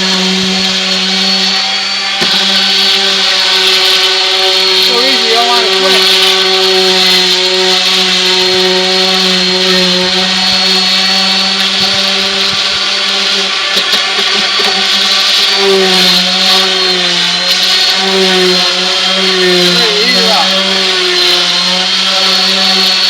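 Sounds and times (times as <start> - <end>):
orbital sander sanding wood: 0.0 - 23.0.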